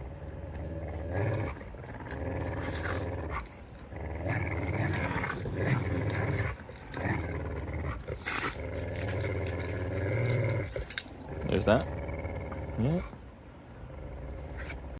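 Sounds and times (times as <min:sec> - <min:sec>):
dogs play-growling: 0:00.0 - 0:14.9.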